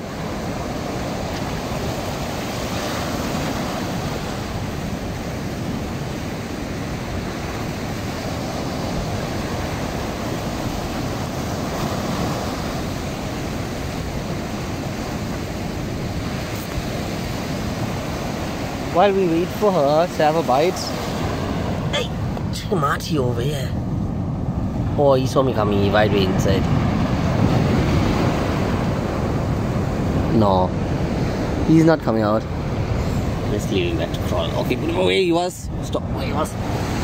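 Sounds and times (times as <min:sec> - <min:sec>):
ocean surf breaking over rocks: 0:00.0 - 0:37.0
wind on microphone: 0:00.0 - 0:37.0.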